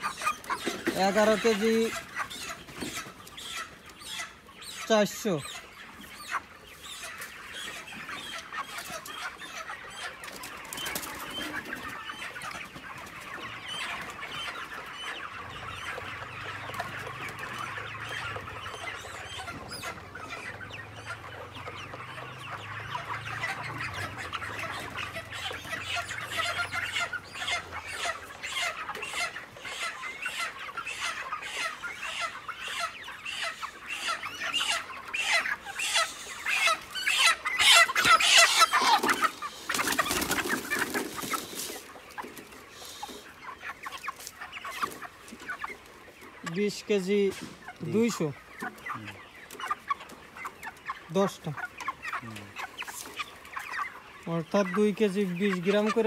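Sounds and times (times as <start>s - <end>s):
flock of chickens clucking: 0.0s - 56.0s.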